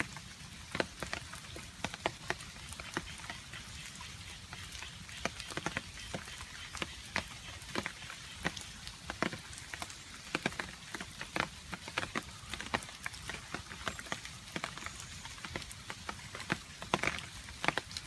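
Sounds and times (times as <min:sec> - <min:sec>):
rain hiss: 0:00.0 - 0:18.0.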